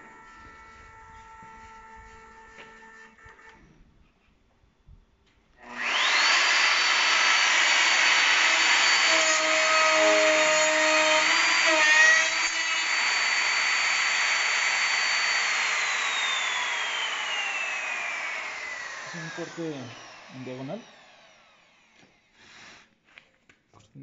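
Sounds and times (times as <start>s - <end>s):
router whining cutting board: 0.0s - 3.8s, 5.6s - 22.9s.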